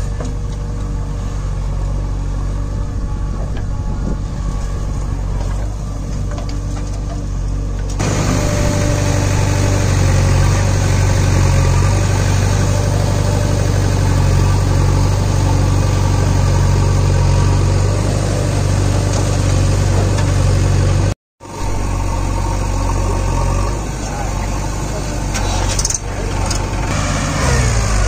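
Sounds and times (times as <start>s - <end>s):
backhoe diesel engine humming: 0.0s - 28.0s.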